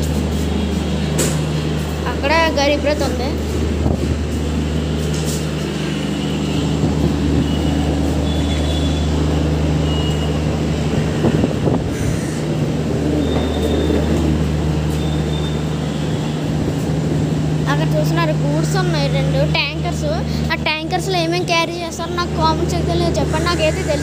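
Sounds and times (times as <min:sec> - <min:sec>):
idling train hum: 0:00.0 - 0:24.0.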